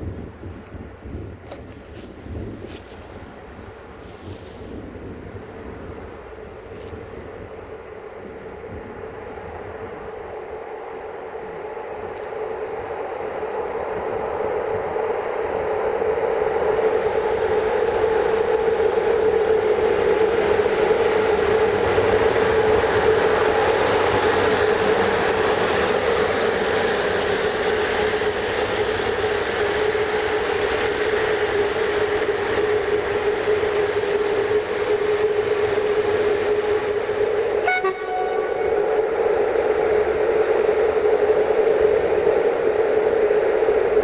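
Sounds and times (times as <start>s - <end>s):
electric train whine and rolling: 0.0s - 44.0s.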